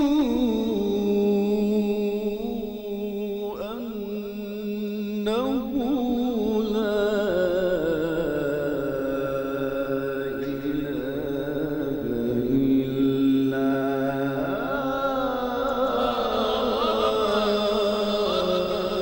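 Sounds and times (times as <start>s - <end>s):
man chanting melodically: 0.0s - 19.0s.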